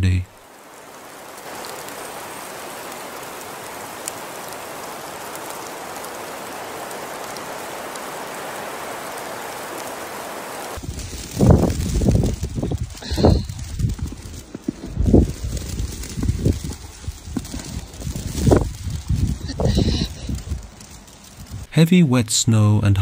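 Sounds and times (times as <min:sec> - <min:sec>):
rain hissing on surfaces: 0:00.0 - 0:21.8.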